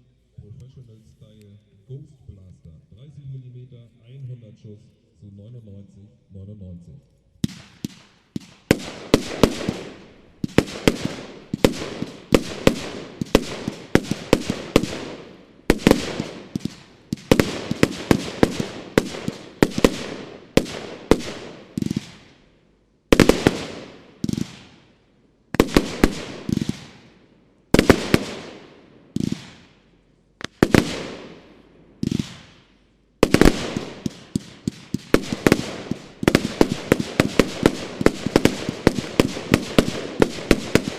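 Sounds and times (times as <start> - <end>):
firework volleys of sharp bangs: 7.4 - 40.9.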